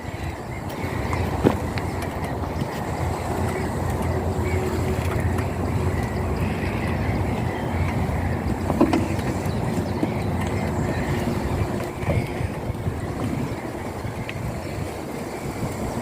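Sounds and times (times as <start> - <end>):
powerchair motors running: 0.0 - 16.0.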